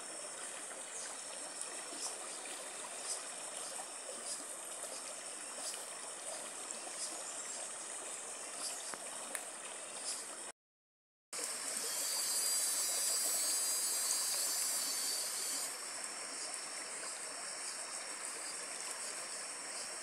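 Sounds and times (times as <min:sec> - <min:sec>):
creek water flowing over rocks: 0:00.0 - 0:10.5, 0:11.4 - 0:20.0.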